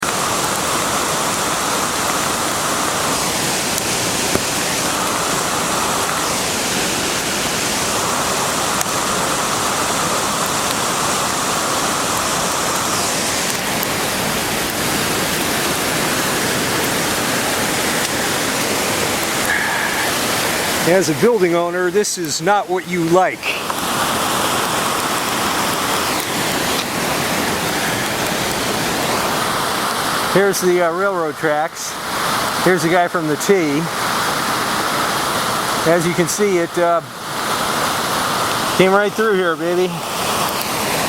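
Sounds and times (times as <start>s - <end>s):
floodwater rushing and churning: 0.0s - 41.0s.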